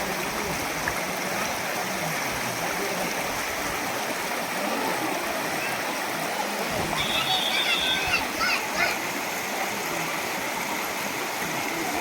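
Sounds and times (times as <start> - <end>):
rushing flowing water: 0.0 - 12.0.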